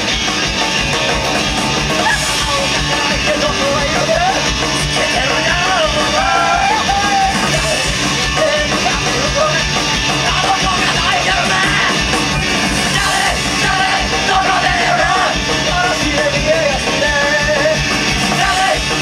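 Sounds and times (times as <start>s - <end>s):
live garage punk band: 0.0s - 19.0s
man singing in shouted style: 2.0s - 12.1s, 12.8s - 19.0s.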